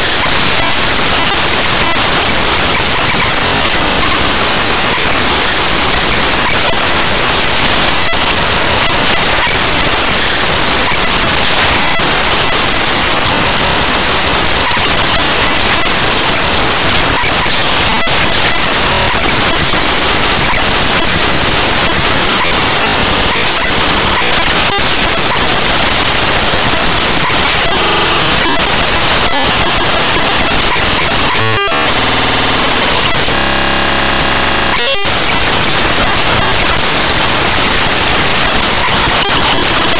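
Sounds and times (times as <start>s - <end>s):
loud steady static: 0.0s - 39.9s.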